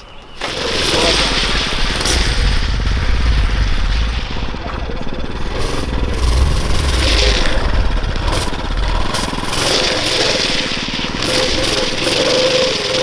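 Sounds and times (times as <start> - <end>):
small single-cylinder engine running: 0.0 - 13.0.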